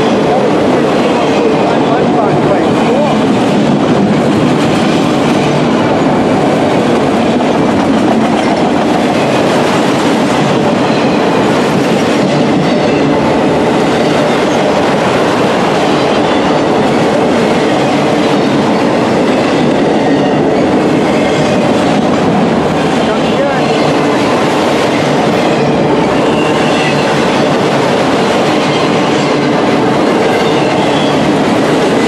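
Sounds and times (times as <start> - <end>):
steel wheels on rails: 0.0 - 32.0.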